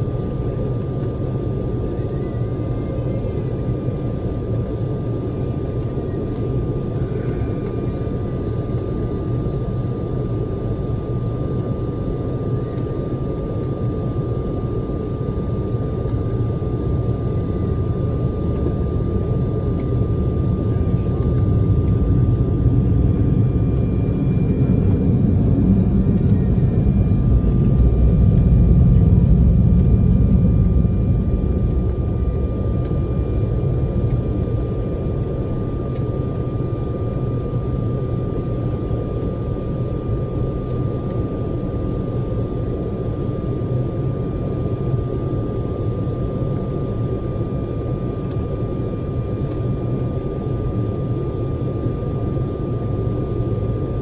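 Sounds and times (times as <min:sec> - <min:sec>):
jet engines rumbling with whine: 0:00.0 - 0:54.0.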